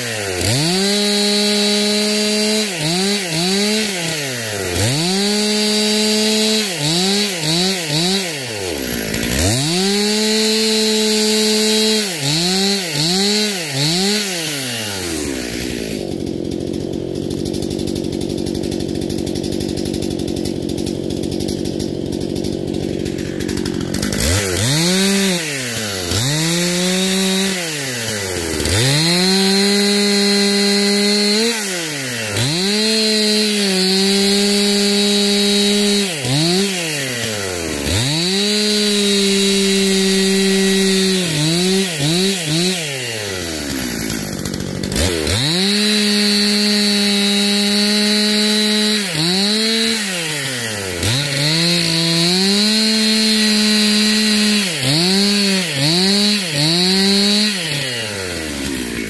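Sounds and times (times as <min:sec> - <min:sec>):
chainsaw idling: 0:00.0 - 0:59.0
chainsaw revving: 0:00.0 - 0:59.0.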